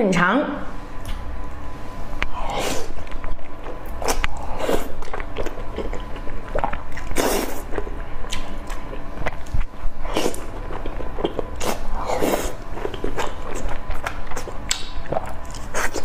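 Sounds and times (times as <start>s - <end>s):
biting and chewing meat: 2.9s - 16.0s.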